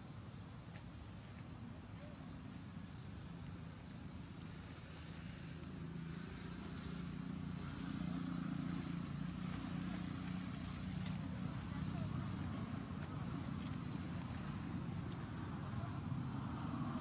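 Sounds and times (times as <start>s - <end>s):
distant motor engine humming: 2.0s - 17.0s.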